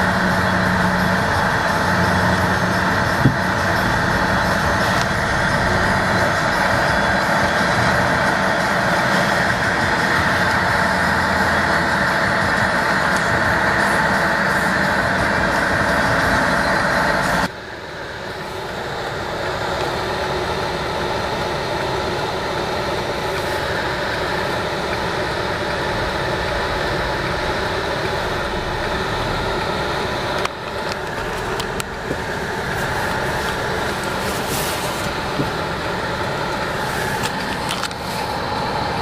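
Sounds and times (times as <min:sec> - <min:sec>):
car engine rumble inside cabin: 0:00.0 - 0:39.0.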